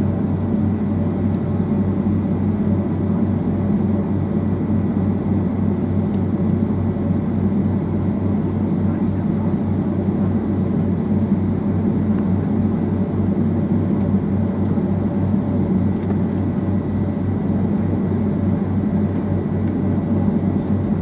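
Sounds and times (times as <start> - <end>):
jet engine cabin drone: 0.0 - 21.0.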